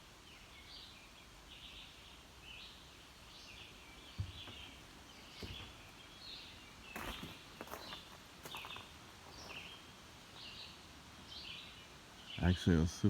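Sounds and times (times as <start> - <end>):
birds chirping: 0.3 - 13.0.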